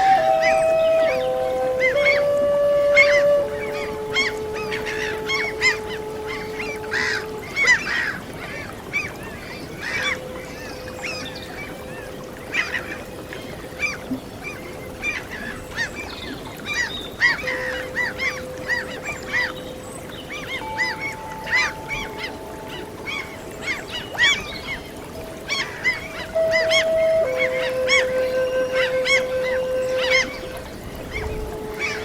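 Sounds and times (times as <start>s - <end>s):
long held musical notes: 0.0s - 14.1s, 17.4s - 32.0s
gulls calling: 0.0s - 32.0s
sea waves: 0.0s - 32.0s.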